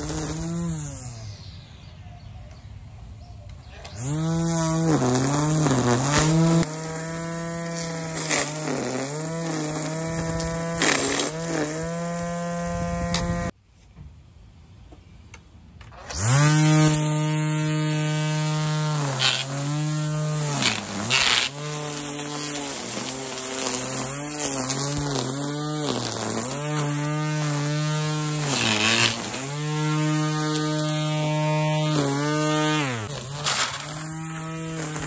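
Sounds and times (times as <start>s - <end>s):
string trimmer motor whining: 0.0s - 1.9s, 3.5s - 13.6s, 15.8s - 35.0s.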